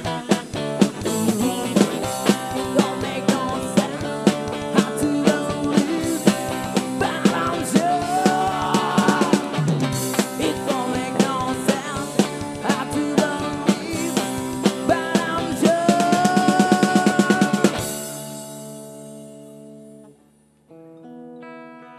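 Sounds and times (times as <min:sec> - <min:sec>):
person singing lead vocal: 0:00.0 - 0:18.0
drum kit beat: 0:00.0 - 0:19.4
electric guitars: 0:00.0 - 0:21.9.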